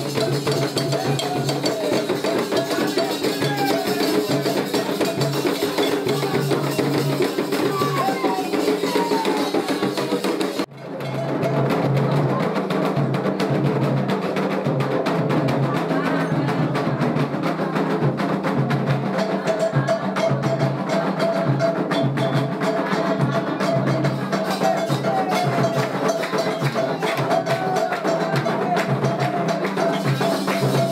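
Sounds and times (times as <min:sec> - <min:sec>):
voices singing: 0:00.0 - 0:13.4, 0:14.0 - 0:30.9
hand drums rhythm: 0:00.0 - 0:30.9
struck percussion: 0:00.0 - 0:30.9.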